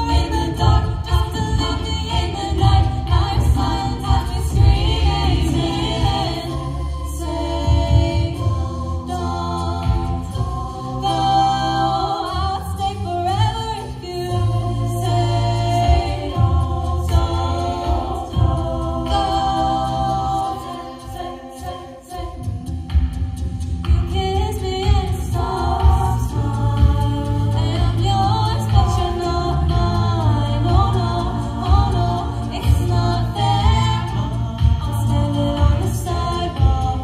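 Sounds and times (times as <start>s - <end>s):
vocal percussion hits: 0.0s - 12.4s, 14.3s - 37.0s
a cappella group singing: 0.0s - 37.0s.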